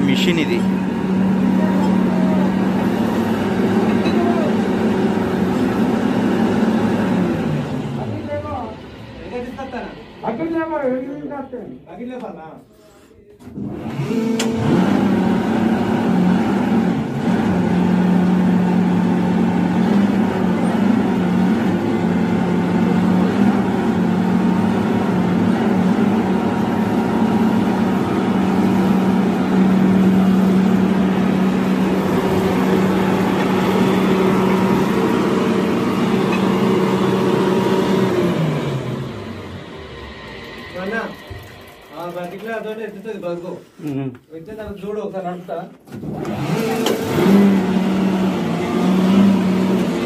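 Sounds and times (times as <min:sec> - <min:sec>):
coal-cutting machine drone: 0:00.0 - 0:11.3, 0:13.5 - 0:43.3, 0:46.0 - 0:50.0.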